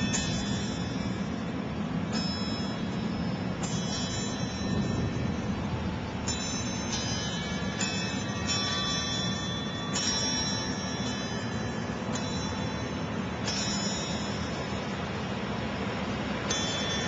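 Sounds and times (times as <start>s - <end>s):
metal wind chimes ringing: 0.0s - 17.0s.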